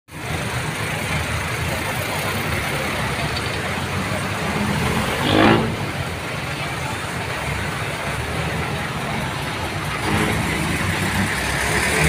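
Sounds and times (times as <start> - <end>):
crowd voices: 0.1 - 12.0
vehicle engines passing: 0.1 - 12.0.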